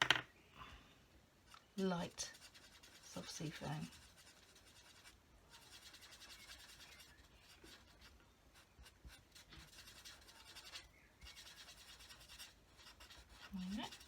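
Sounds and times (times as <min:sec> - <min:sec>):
marker scratching on card: 0:02.3 - 0:14.0.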